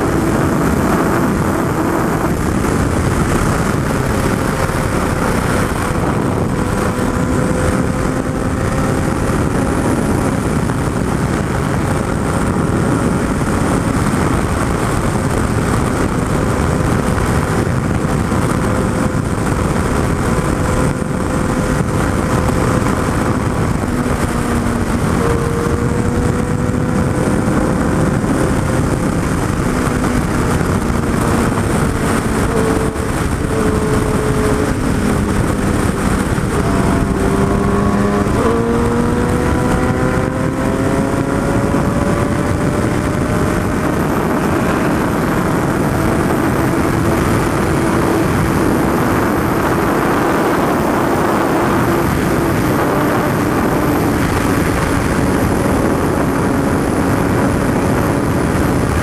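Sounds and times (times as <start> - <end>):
motorcycle engine running: 0.0 - 59.0
wind rushing on microphone: 0.0 - 59.0.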